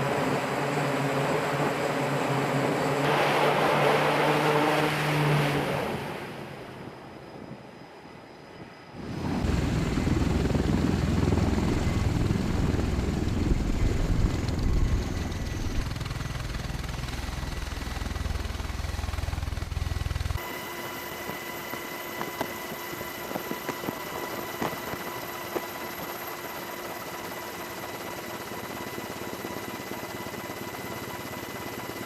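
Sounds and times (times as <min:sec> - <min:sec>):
aircraft engine hum: 0:00.0 - 0:32.0.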